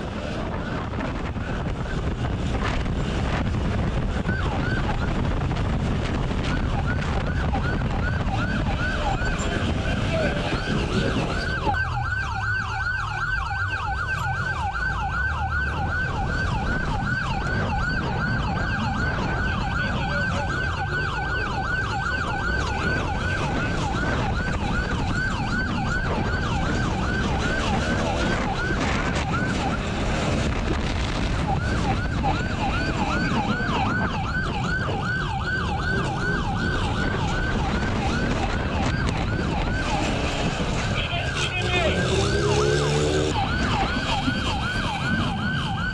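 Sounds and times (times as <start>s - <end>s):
police siren yelping: 0.0s - 45.9s
vehicle engine rushing: 0.0s - 45.9s
wind noise: 0.0s - 45.9s.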